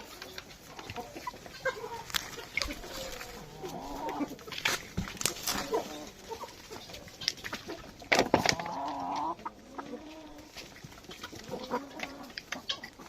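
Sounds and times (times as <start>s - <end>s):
chickens clucking: 0.0s - 13.0s
drawn-out chicken call: 0.0s - 13.0s.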